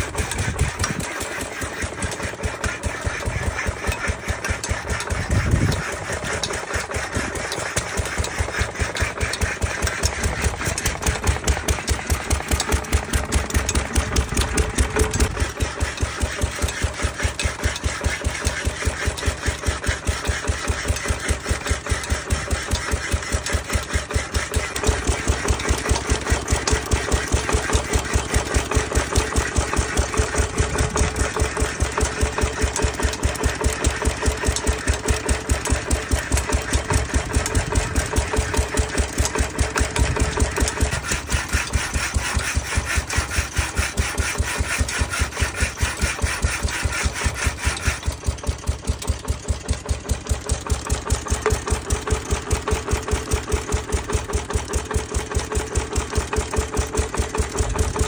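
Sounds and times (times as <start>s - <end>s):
stationary engine running: 0.0s - 58.0s.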